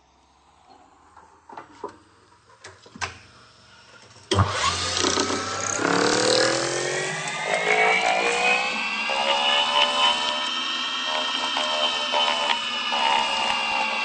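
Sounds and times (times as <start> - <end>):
metal lathe whine rising: 0.0 - 2.6, 3.3 - 14.0.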